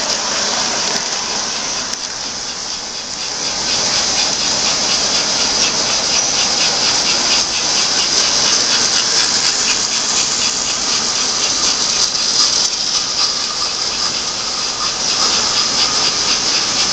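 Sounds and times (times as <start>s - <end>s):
rapid rhythmic clicking: 0.0s - 16.9s
toy train motors whining: 0.0s - 16.9s.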